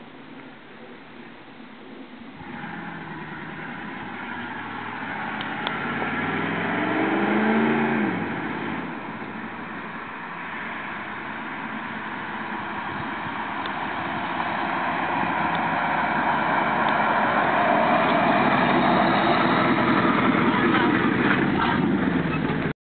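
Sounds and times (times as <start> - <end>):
vee eight engine exhaust: 2.4 - 22.7.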